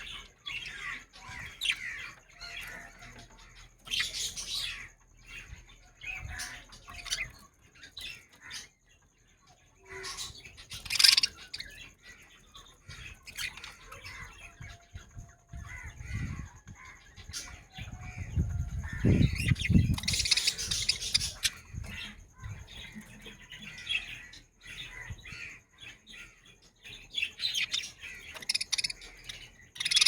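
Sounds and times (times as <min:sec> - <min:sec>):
budgerigars chirping: 0:00.0 - 0:30.0.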